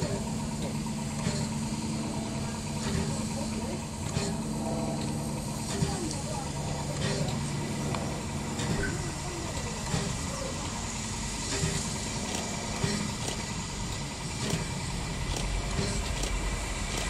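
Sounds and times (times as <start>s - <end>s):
engine idling rumble: 0.0s - 17.0s.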